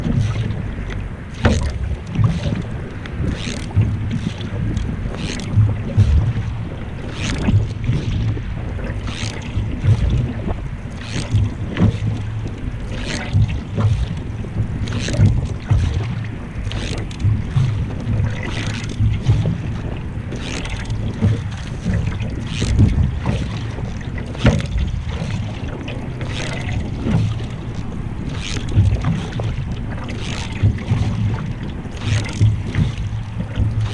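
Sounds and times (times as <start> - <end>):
paddle splashing in water: 0.0 - 33.9
wind rumble on microphone: 0.0 - 33.9.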